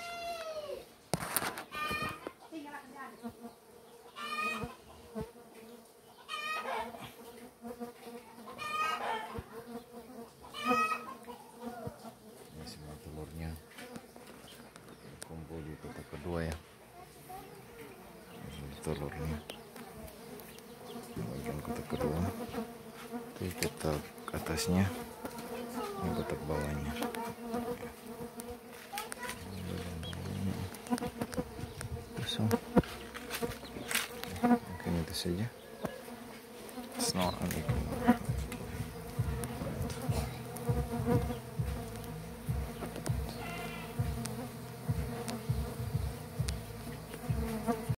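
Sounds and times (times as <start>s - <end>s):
bees buzzing: 1.1s - 48.0s.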